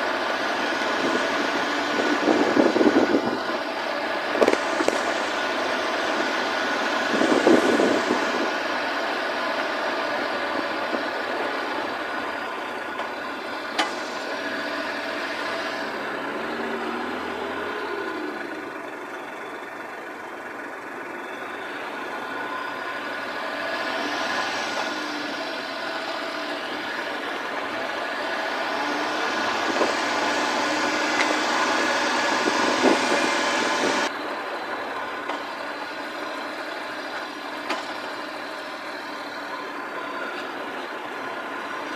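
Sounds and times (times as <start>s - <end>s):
small engine running: 0.0s - 41.9s
tyre and road noise: 0.0s - 41.9s.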